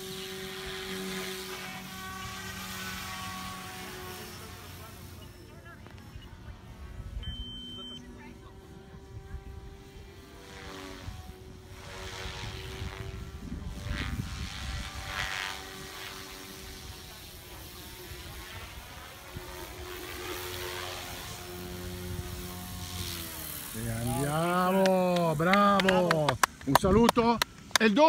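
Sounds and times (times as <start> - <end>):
model helicopter rotor whine: 0.0 - 28.0.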